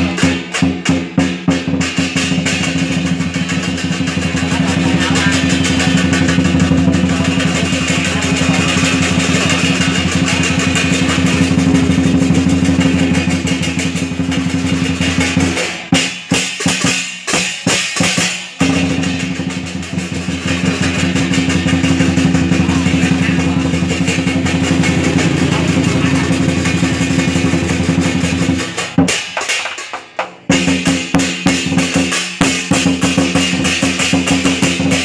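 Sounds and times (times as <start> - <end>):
drum and cymbals roll: 0.0 - 35.0.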